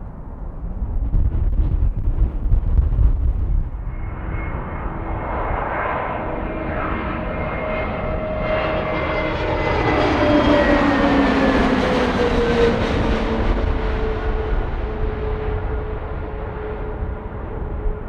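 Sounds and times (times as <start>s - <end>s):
jet airliner passing: 0.0s - 18.0s.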